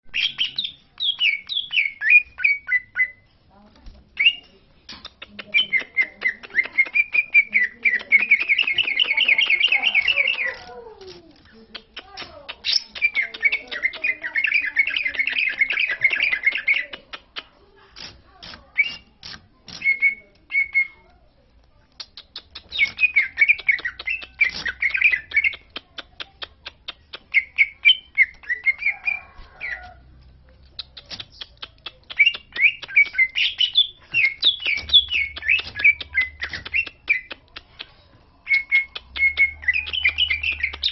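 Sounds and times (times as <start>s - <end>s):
bird chattering and warbling: 0.1s - 3.3s, 4.1s - 40.9s.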